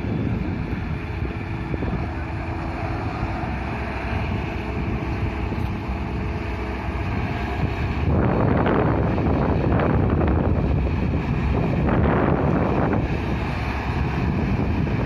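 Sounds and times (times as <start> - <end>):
diesel engines rumbling: 0.0 - 15.0.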